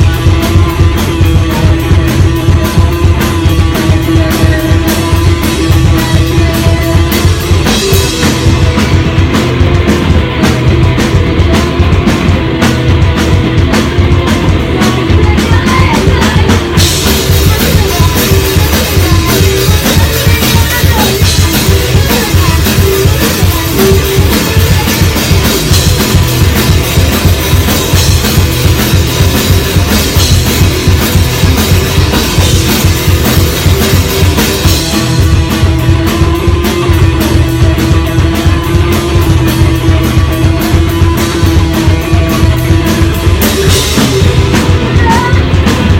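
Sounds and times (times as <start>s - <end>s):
rock band playing live: 0.0s - 45.9s.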